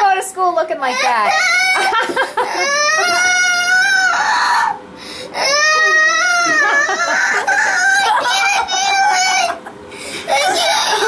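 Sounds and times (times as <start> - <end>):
boy wailing and crying: 0.9 - 4.8, 5.4 - 9.6, 10.3 - 11.0.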